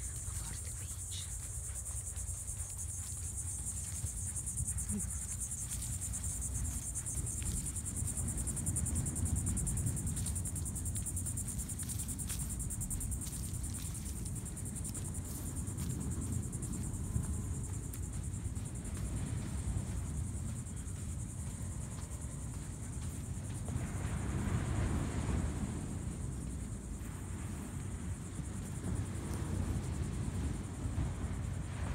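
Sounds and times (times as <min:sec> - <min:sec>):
insect chorus trilling: 0:00.0 - 0:31.9.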